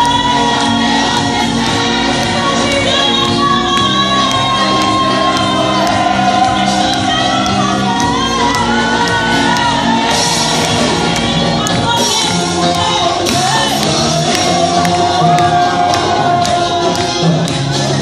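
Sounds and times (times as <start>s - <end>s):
choir and lead singer: 0.0s - 18.0s
instrumental accompaniment with beat: 0.0s - 18.0s.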